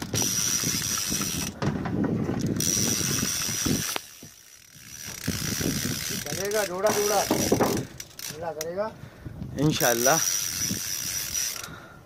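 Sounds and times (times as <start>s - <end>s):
fishing reel ratcheting clicks: 0.0s - 1.6s, 2.4s - 8.9s, 9.6s - 11.8s.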